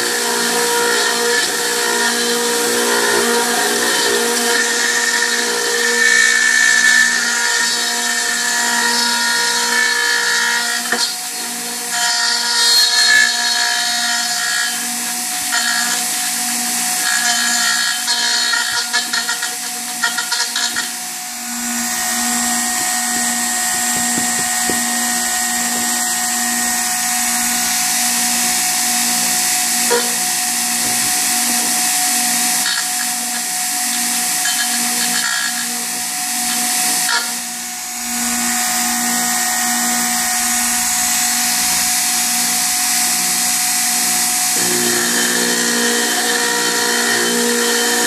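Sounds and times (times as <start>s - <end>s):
cutter cutting metal: 0.0s - 48.0s
router motor whine: 0.0s - 48.0s.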